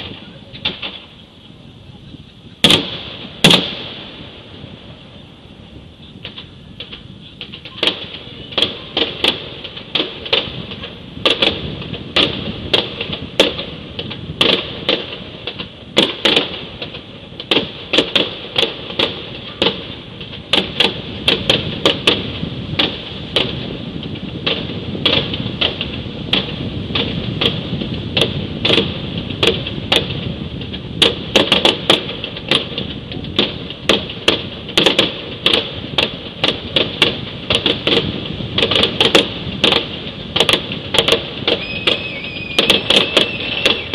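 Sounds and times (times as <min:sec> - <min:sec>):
distant fireworks bangs and pops: 0:00.0 - 0:01.2, 0:02.5 - 0:43.9.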